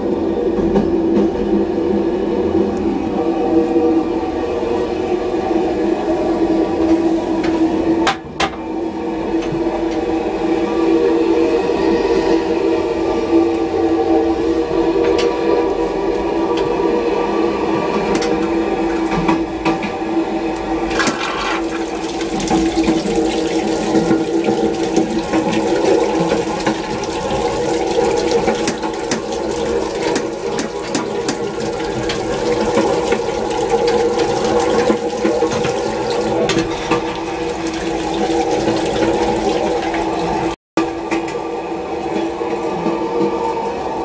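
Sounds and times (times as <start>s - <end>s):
toilet flushing: 0.0s - 44.0s
train hum: 0.0s - 44.0s.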